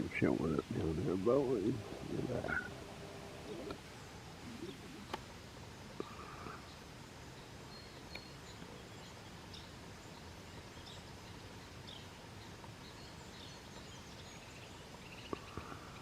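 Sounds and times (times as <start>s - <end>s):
faint steady hiss: 0.0s - 16.0s
faint bird chirps: 1.6s - 5.2s, 5.8s - 16.0s.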